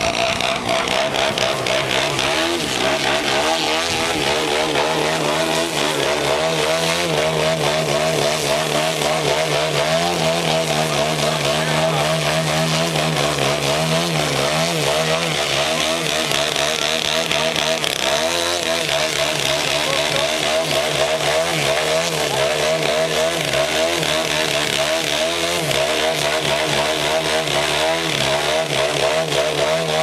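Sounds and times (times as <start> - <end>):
model airplane engine and propeller: 0.0 - 30.0.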